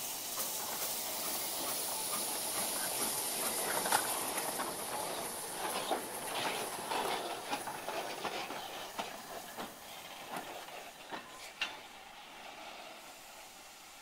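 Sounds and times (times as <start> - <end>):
steam hissing: 0.0 - 14.0
wheels clanking over track: 0.3 - 12.1.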